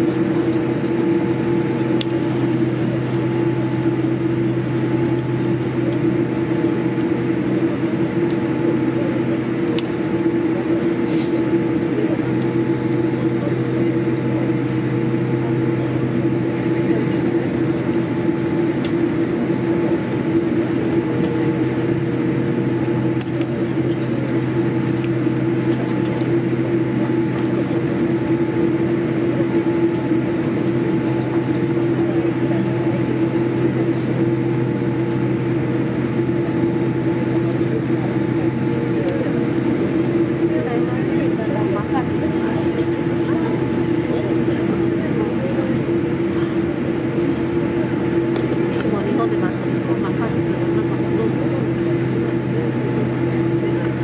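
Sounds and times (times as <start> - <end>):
aircraft cabin hum: 0.0 - 54.0.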